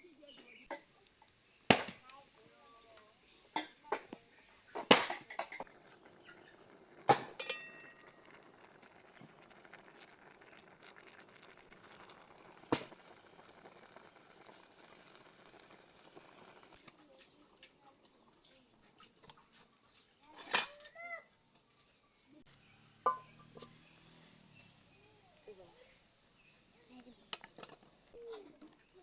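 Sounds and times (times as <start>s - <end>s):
faint steady background noise: 0.0s - 29.0s.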